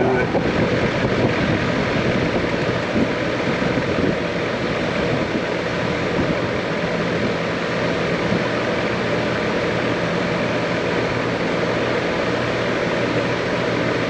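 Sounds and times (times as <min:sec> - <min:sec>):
condenser fan rushing air: 0:00.0 - 0:14.0
low compressor hum: 0:00.0 - 0:14.0.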